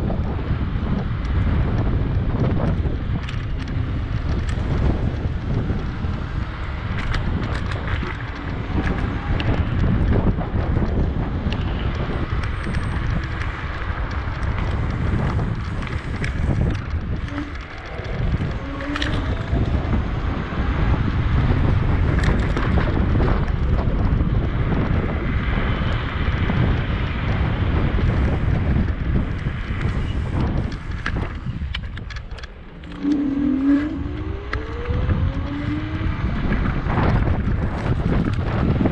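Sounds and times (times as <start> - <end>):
bicycle clicks and rattles: 0.0 - 38.9
wind buffeting microphone: 0.0 - 38.9.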